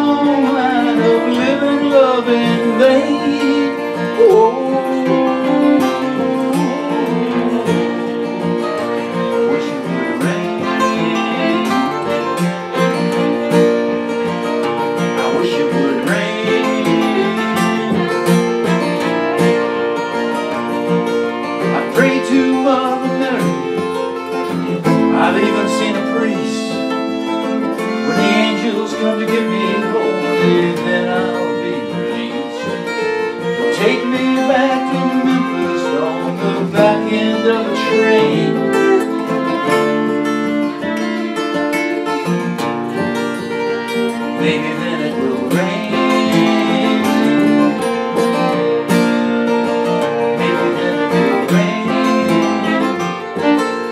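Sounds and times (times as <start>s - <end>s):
acoustic guitars playing: 0.0s - 53.9s
fiddle playing: 0.0s - 53.9s.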